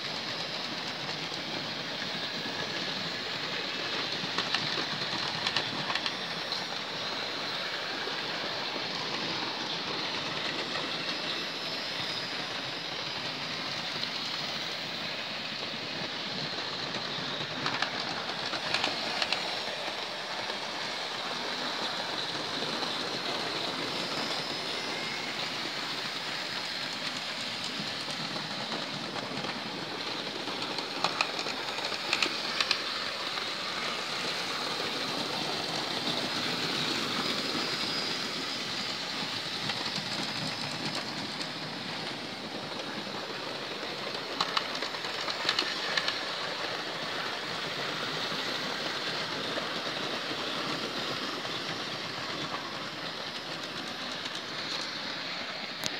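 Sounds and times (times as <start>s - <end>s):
model trains rattling on track: 0.0s - 55.9s.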